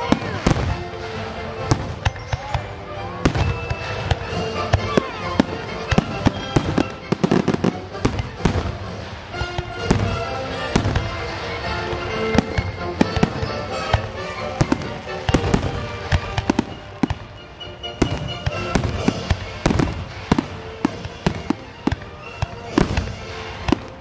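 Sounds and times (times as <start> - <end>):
fireworks bangs and crackling: 0.0 - 24.0
music: 0.0 - 24.0.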